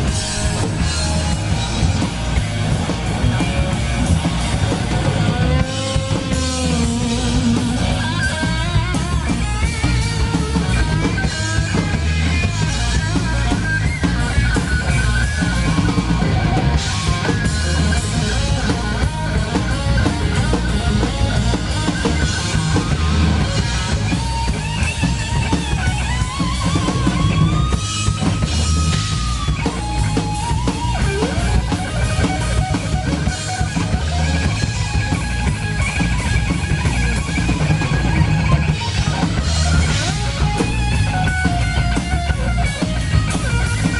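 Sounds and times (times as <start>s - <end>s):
bent lead guitar note: 0.0s - 43.9s
live rock band playing: 0.0s - 43.9s.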